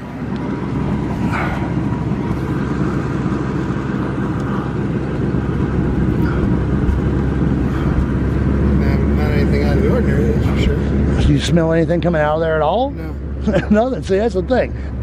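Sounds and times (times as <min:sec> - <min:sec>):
sputtering engine exhaust rumble: 0:00.0 - 0:15.0.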